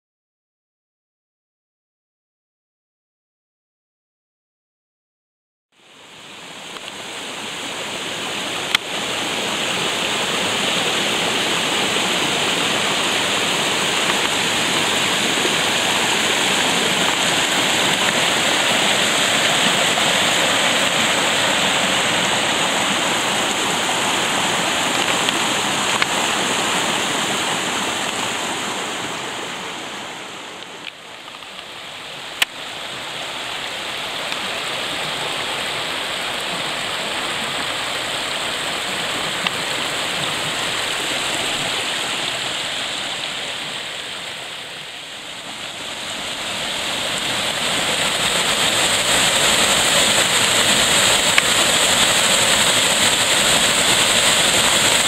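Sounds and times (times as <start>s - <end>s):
brook rushing over rocks: 6.6s - 55.0s.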